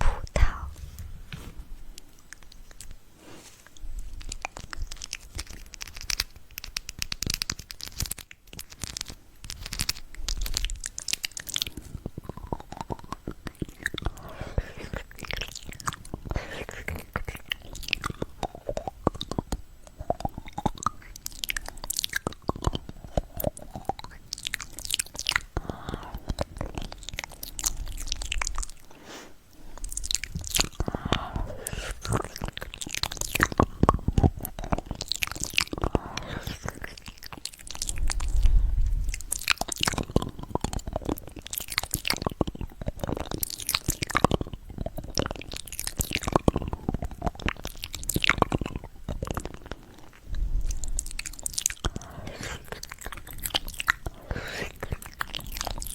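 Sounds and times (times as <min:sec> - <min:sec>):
crunchy fruit chewing: 0:00.0 - 0:55.9.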